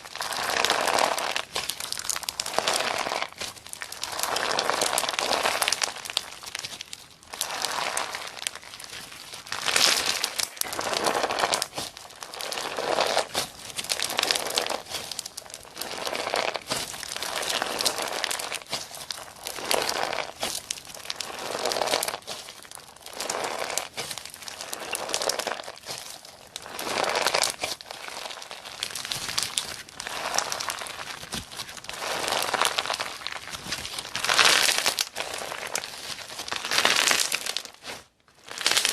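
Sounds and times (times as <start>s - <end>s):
slime squishing: 0.0s - 38.9s.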